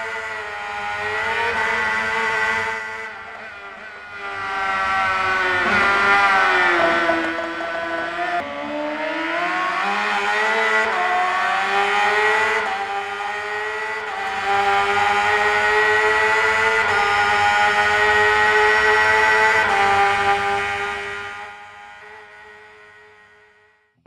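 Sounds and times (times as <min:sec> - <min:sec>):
vehicle engine revving high: 0:00.0 - 0:23.7.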